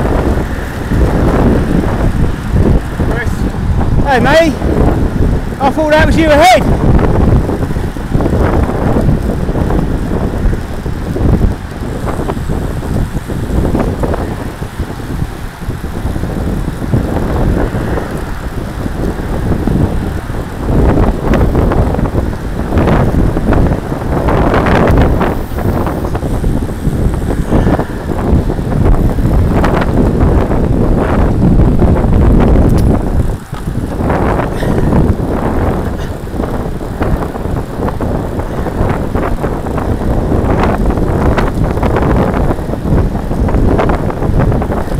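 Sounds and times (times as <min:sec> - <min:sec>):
bicycle tyre and road noise: 0:00.0 - 0:44.9
wind buffeting microphone: 0:00.0 - 0:44.9.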